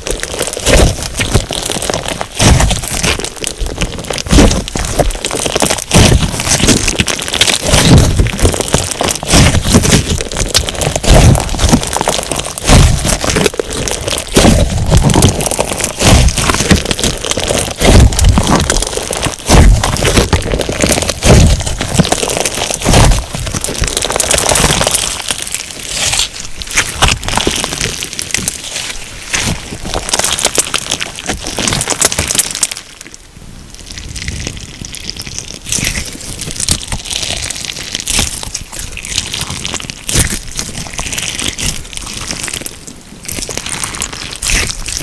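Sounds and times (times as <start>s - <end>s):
crackling of beads in slime: 0.0s - 33.2s, 33.9s - 45.0s
slime squishing: 0.0s - 33.2s, 33.8s - 45.0s.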